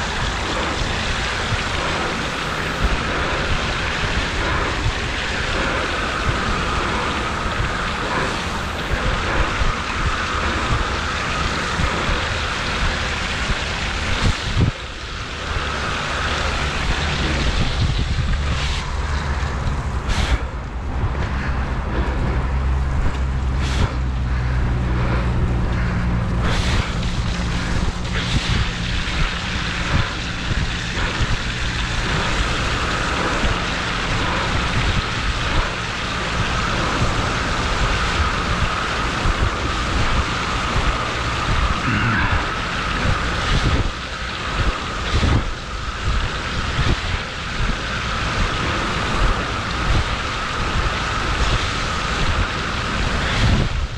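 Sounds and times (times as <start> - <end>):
tyres on wet path: 0.0 - 53.9
water splashing: 0.0 - 53.9
wind noise on microphone: 0.0 - 53.9.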